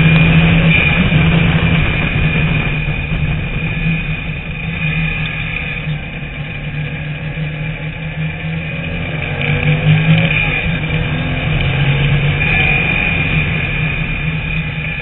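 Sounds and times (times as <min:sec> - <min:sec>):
race car engine revving hard: 0:00.0 - 0:15.0
wind noise: 0:00.0 - 0:15.0.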